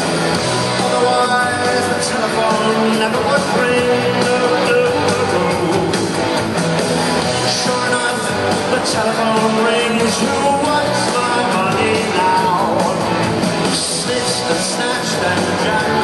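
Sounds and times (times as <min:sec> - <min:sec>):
live rock band playing: 0:00.0 - 0:16.0
male lead vocal: 0:00.1 - 0:06.4, 0:07.2 - 0:16.0.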